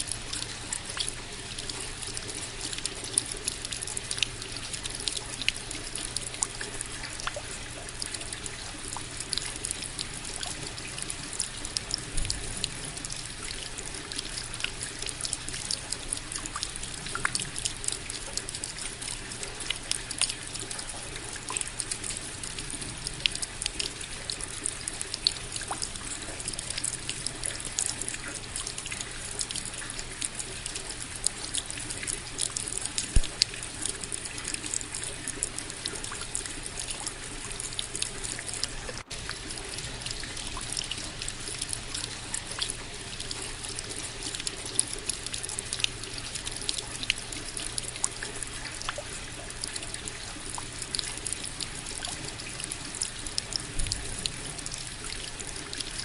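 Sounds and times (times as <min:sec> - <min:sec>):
rain drops ticking and splashing: 0:00.0 - 0:56.0.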